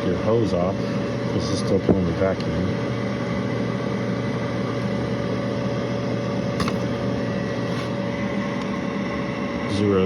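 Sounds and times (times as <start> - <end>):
motor humming and whining: 0.0 - 10.0.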